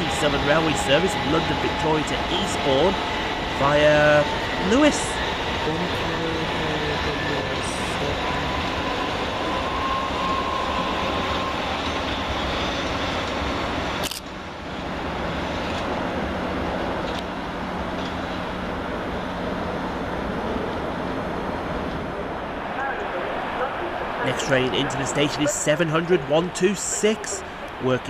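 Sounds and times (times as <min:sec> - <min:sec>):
electric train rolling rumble: 0:00.0 - 0:28.0.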